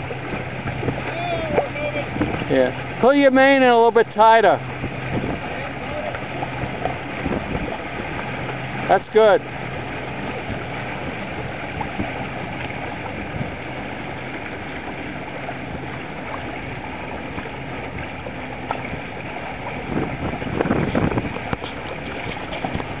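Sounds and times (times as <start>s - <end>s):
water rushing past boat hull: 0.0s - 23.0s
water splashing: 0.0s - 23.0s.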